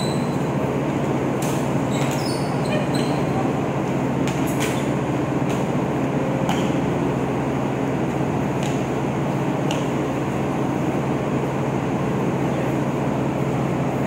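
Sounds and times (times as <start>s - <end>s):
machinery and ventilation hum: 0.0s - 14.0s.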